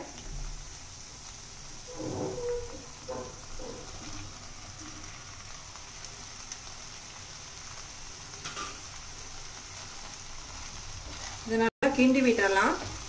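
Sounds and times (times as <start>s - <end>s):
food sizzling in frying pan: 0.0s - 13.0s.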